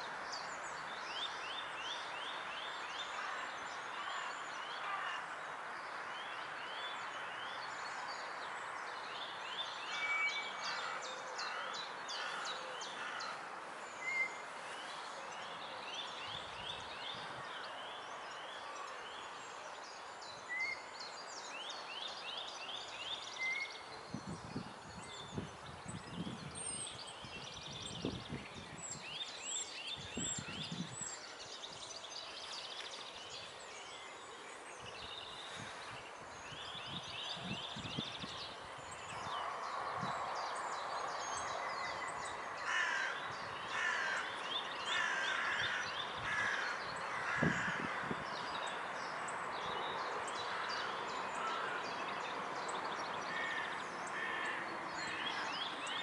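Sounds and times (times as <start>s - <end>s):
birds singing and trilling: 0.0s - 56.0s.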